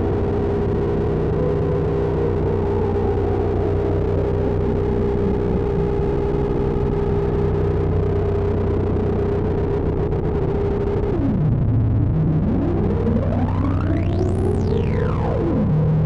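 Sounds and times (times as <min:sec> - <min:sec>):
synthesizer drone: 0:00.0 - 0:16.0.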